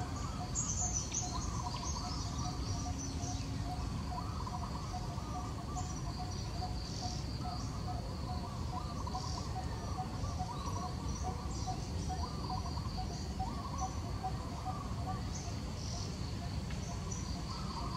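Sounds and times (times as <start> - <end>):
birds chirping: 0.0 - 17.9
high insect drone: 0.0 - 17.9.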